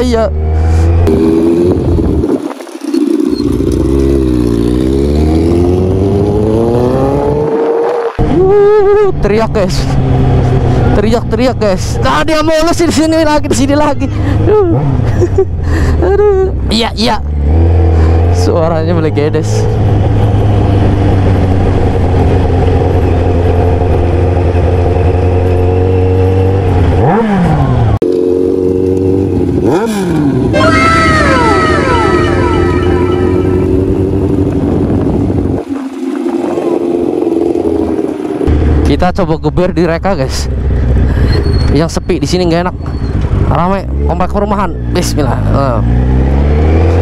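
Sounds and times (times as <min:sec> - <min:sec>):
loud motorcycle engine accelerating: 0:00.0 - 0:15.2, 0:17.2 - 0:41.8, 0:42.8 - 0:47.0.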